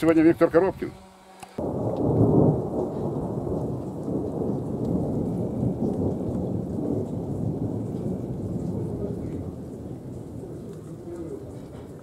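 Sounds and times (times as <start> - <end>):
wind buffeting microphone: 1.6 - 12.0.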